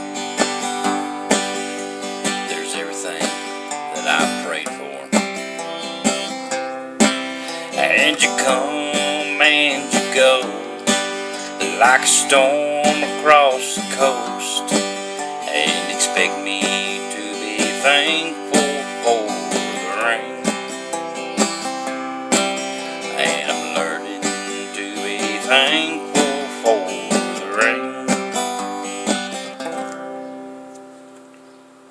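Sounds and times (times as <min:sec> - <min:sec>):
acoustic guitar chords: 0:00.0 - 0:31.7.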